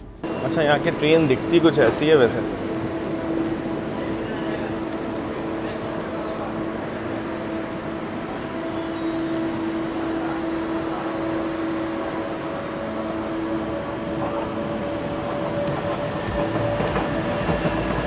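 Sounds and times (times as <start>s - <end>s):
electric train hum: 0.0s - 18.0s
train running noise: 0.0s - 18.0s.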